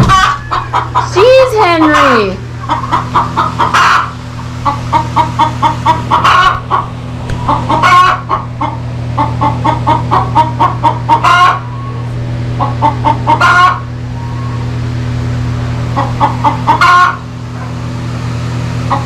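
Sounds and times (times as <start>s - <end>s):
hen cackling: 0.0s - 14.8s, 15.9s - 17.7s
low hum: 0.0s - 19.0s.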